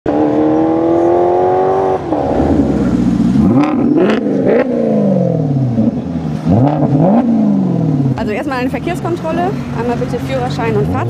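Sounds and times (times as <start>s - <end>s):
sports car engine accelerating: 0.1s - 11.0s.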